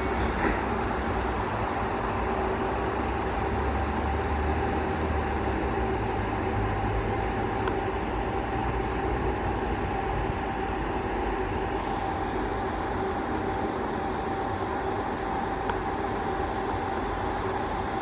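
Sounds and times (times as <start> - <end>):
steady hum: 0.0 - 18.0
train rumbling: 0.0 - 18.0.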